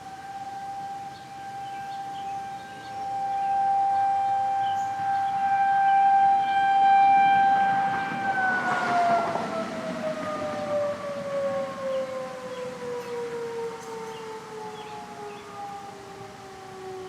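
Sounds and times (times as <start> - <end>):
warning siren winding down: 0.0 - 17.0.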